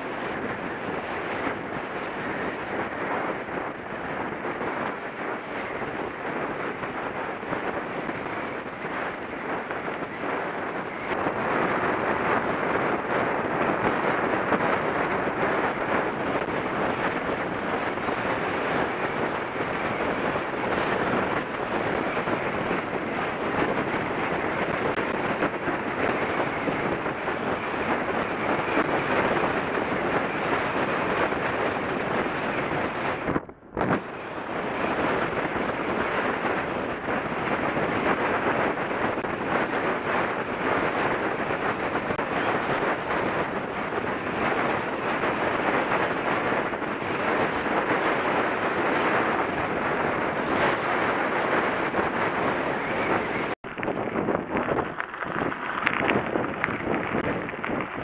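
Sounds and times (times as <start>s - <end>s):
bike riding rumble on gravel: 0.0s - 58.0s
wind buffeting microphone: 0.0s - 58.0s.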